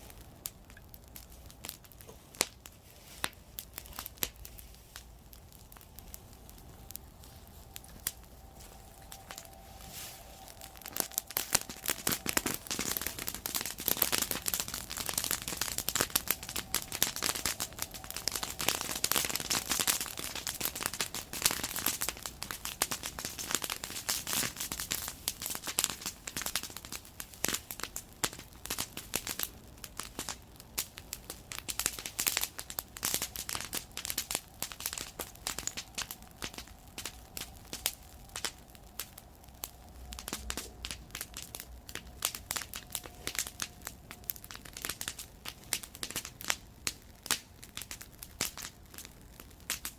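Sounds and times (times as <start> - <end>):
bonfire crackling and popping: 0.0 - 49.9.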